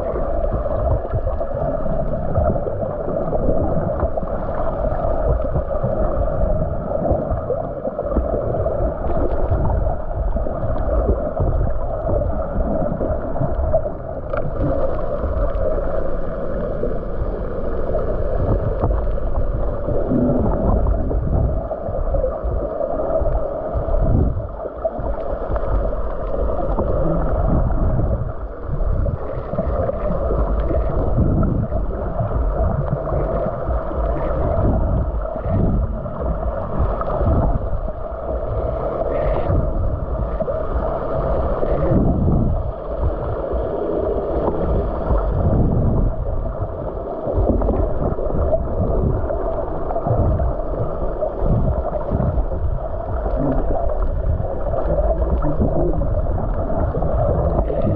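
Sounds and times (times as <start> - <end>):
muffled water sloshing and gurgling: 0.0 - 57.9.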